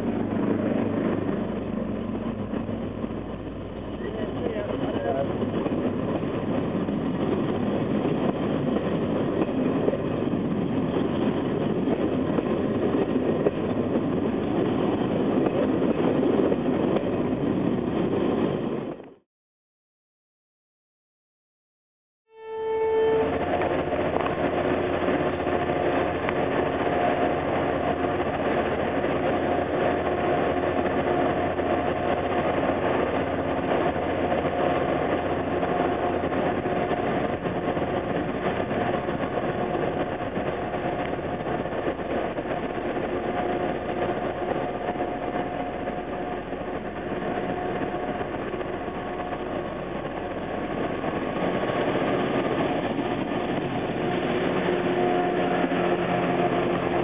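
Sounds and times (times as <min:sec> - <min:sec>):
diesel locomotive engine drone: 0:00.0 - 0:19.2, 0:22.3 - 0:57.0.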